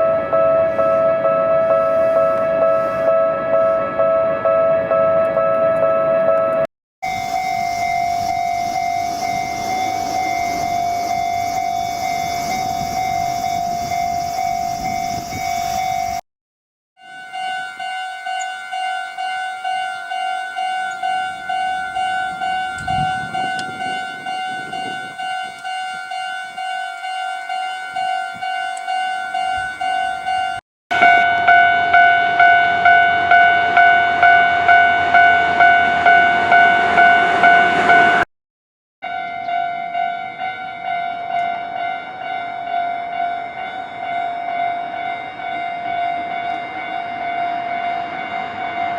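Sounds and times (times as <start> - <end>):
level crossing warning bells: 0.0 - 16.2, 17.0 - 38.3, 39.0 - 48.9.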